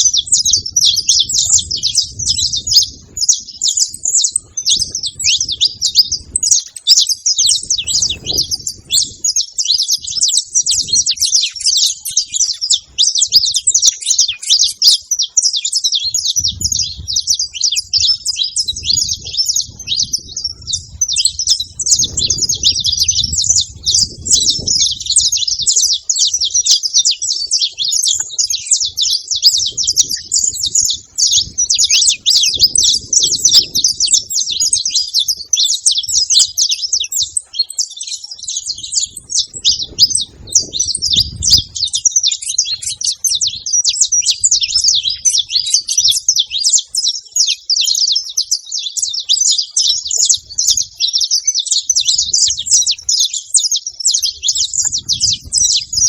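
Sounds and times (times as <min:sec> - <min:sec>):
finches chirping and singing: 0:00.0 - 0:56.0.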